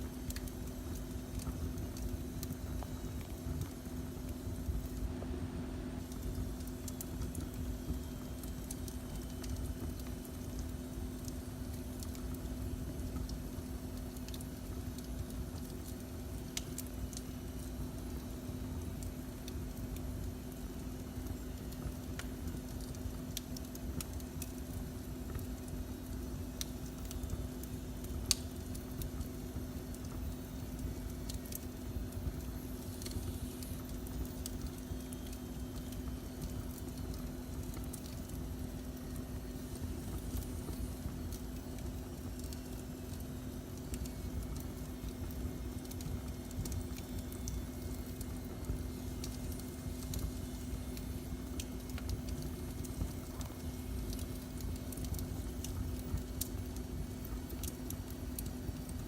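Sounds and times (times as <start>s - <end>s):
steady low hum: 0.0s - 59.0s
wood fire crackling and popping: 0.0s - 59.0s.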